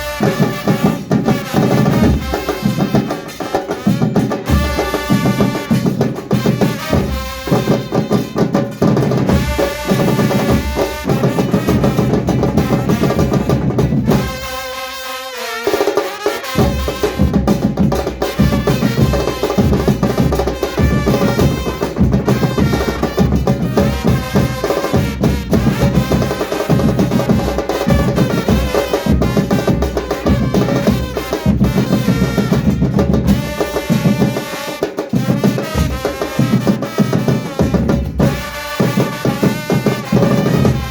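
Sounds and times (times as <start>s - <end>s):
snare drum rolls: 0.0s - 40.9s
bass drums: 3.8s - 14.5s, 16.6s - 34.4s, 35.2s - 40.9s.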